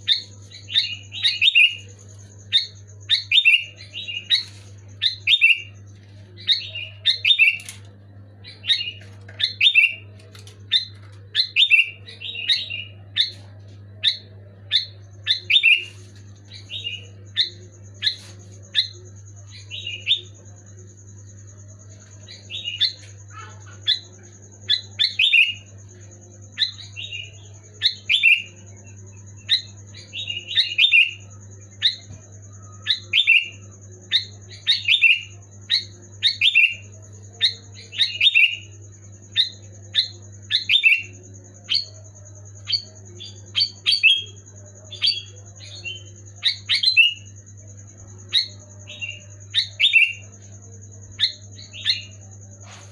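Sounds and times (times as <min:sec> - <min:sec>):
faint high whine: 0:00.0 - 0:52.9.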